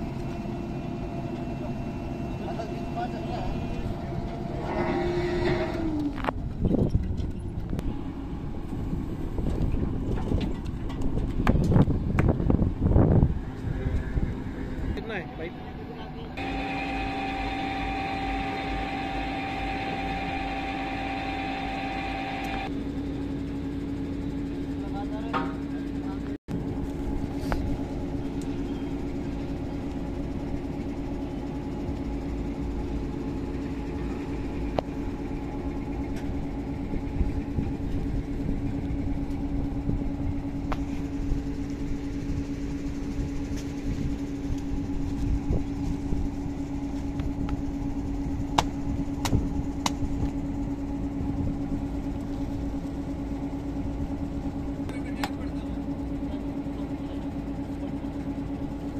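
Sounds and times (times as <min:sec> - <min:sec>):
diesel engine droning: 0:00.0 - 0:58.9.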